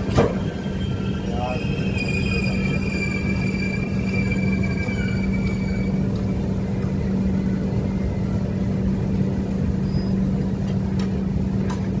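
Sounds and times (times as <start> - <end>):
constant low hum: 0.0 - 12.0
train rumble: 0.0 - 12.0.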